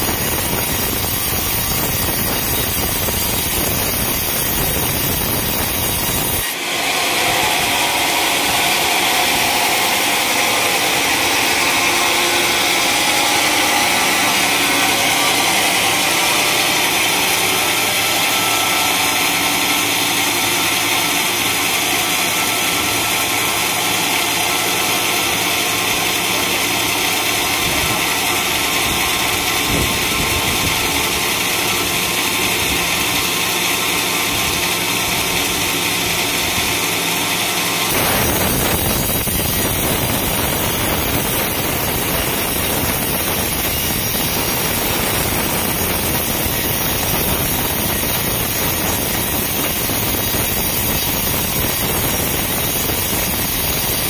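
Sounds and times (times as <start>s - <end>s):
band saw mechanical drone: 0.0s - 54.0s.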